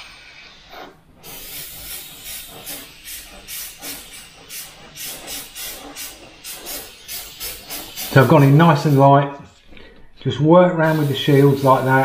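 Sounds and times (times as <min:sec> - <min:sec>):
airbrush hissing: 0:00.0 - 0:09.6, 0:10.8 - 0:12.0.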